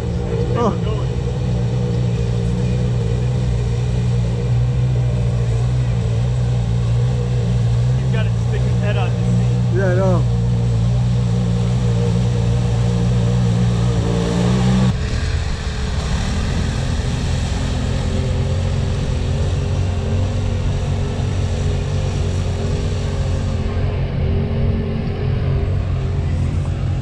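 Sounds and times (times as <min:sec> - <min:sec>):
off-road vehicle engines running: 0:00.0 - 0:27.0.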